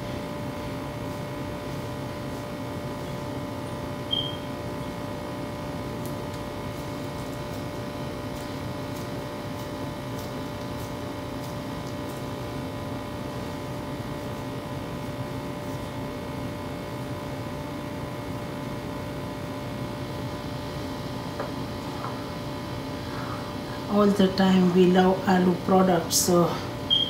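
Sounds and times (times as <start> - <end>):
fan humming: 0.0 - 27.0.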